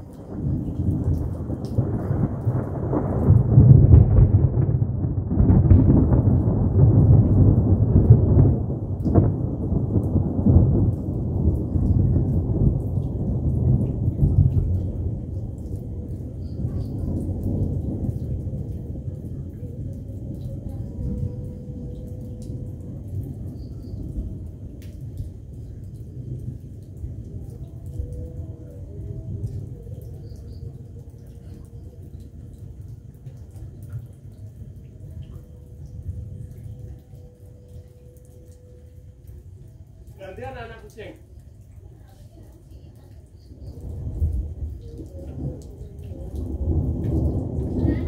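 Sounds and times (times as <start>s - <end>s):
thunder rolling: 0.0s - 41.5s, 43.2s - 48.0s
rain falling: 0.0s - 48.0s.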